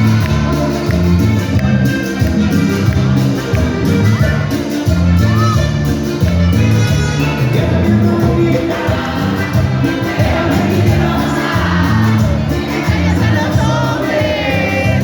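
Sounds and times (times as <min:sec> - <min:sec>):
live band playing cumbia music: 0:00.0 - 0:15.0
rhythmic bass line: 0:00.0 - 0:15.0.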